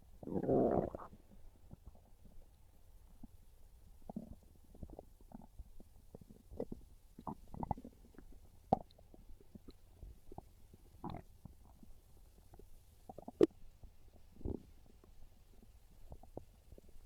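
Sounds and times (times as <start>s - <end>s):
stomach growling and gurgling: 0.0s - 17.0s.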